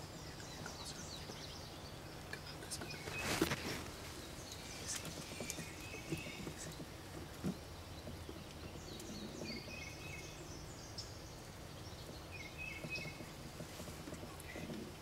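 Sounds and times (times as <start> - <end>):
outdoor background hiss: 0.0 - 15.0
small birds chirping: 0.0 - 15.0.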